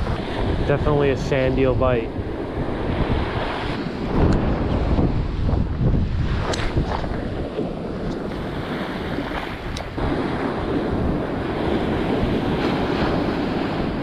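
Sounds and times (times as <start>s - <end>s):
ocean surf breaking on beach: 0.0s - 14.0s
wind buffeting microphone: 0.0s - 14.0s.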